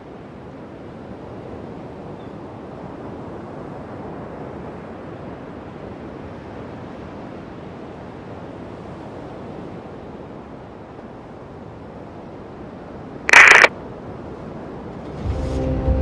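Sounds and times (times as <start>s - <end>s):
ocean surf: 0.0s - 15.3s.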